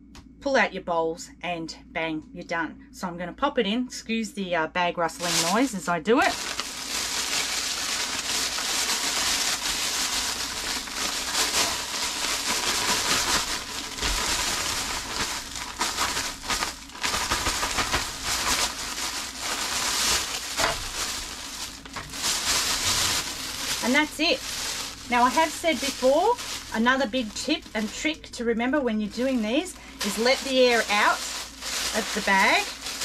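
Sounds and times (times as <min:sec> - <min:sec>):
plastic bag crinkling: 0:05.1 - 0:33.0.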